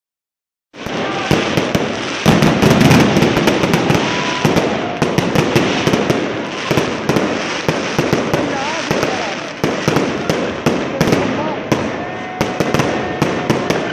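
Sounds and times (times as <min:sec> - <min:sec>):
firecracker bangs: 0:00.8 - 0:13.9
fireworks crackling: 0:00.8 - 0:13.9.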